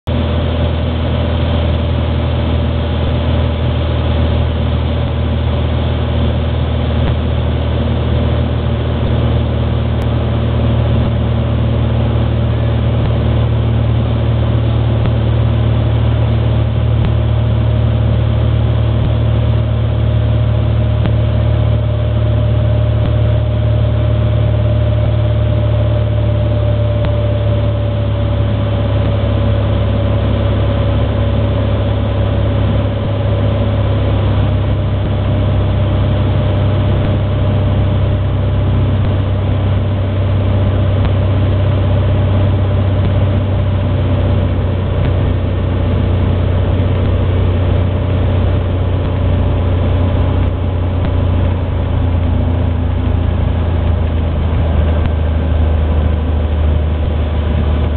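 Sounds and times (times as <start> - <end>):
propeller plane engine droning: 0.0 - 57.9.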